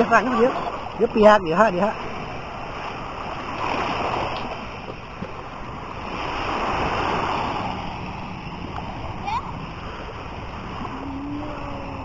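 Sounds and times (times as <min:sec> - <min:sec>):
sea waves washing on beach: 0:00.0 - 0:12.0.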